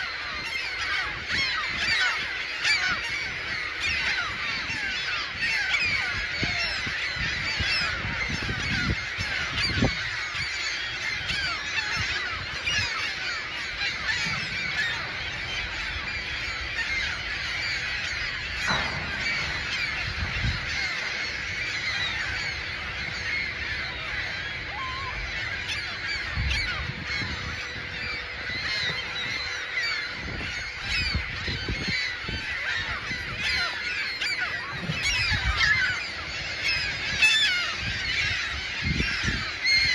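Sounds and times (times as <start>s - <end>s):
gulls screeching: 0.0s - 39.9s.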